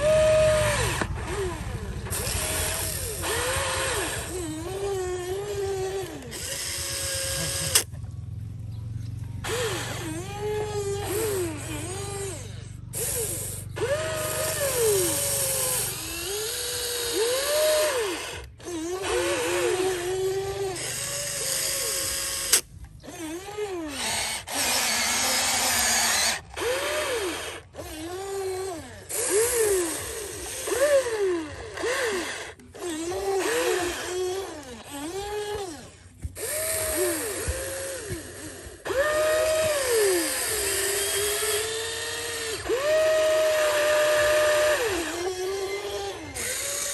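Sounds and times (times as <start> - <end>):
electric motors whining: 0.0 - 46.9.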